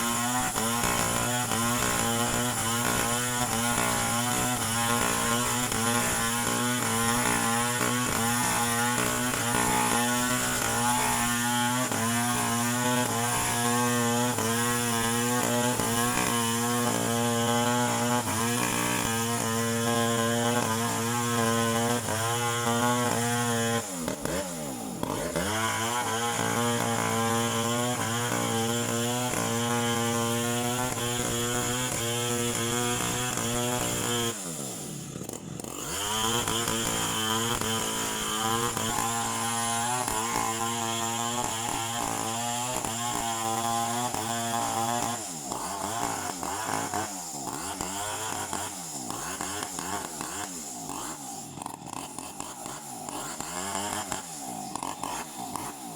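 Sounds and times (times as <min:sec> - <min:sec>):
chainsaw running at high revs: 0:00.0 - 0:55.9.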